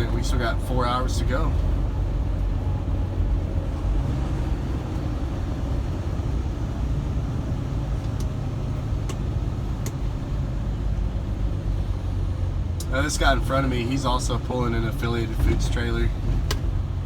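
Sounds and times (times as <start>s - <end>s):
road noise: 0.0s - 17.0s
truck diesel engine droning: 0.0s - 17.0s.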